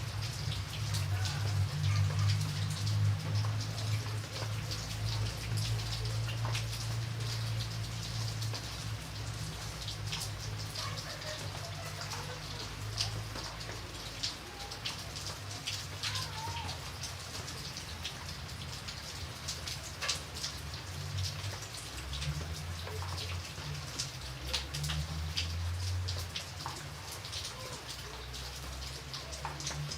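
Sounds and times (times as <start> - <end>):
rain hissing: 0.0 - 29.9
raindrops ticking on a surface: 0.0 - 29.9.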